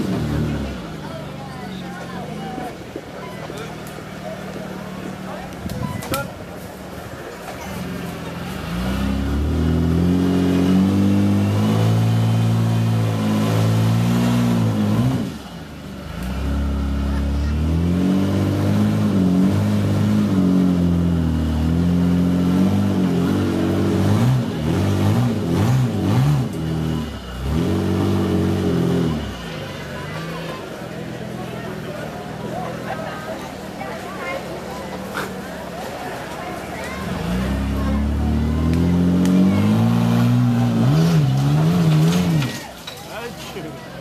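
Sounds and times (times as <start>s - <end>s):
truck engine revving: 0.0s - 2.8s, 3.5s - 44.0s.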